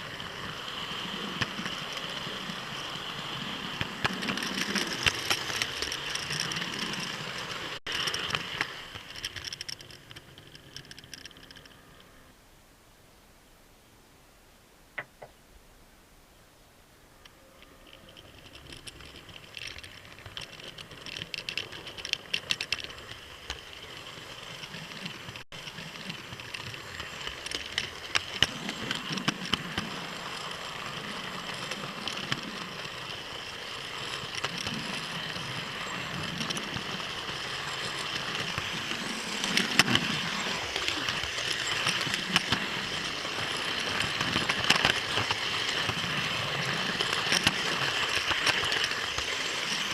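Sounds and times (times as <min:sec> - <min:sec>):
model train motor whine: 0:00.0 - 0:12.3, 0:17.2 - 0:49.9
wheels clicking over rail joints: 0:00.0 - 0:12.3, 0:17.1 - 0:49.9.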